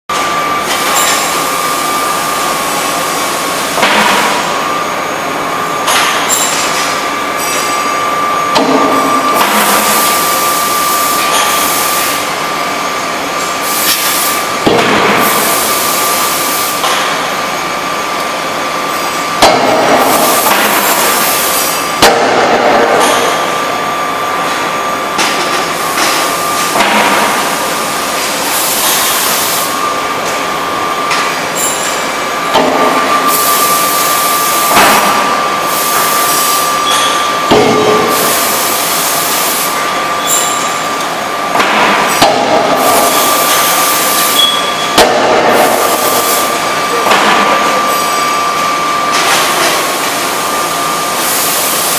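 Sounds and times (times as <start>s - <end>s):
machine hum and high whine: 0.1s - 51.9s.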